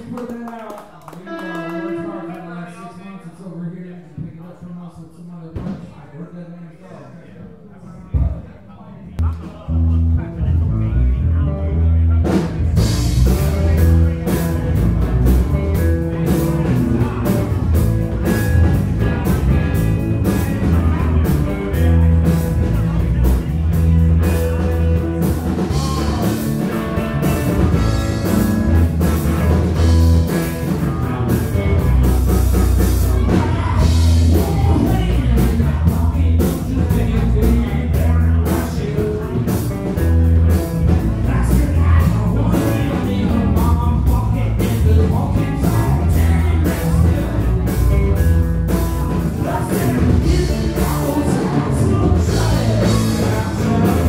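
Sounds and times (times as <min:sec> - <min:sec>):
rock band playing loud: 0:01.3 - 0:02.4, 0:09.2 - 0:54.0.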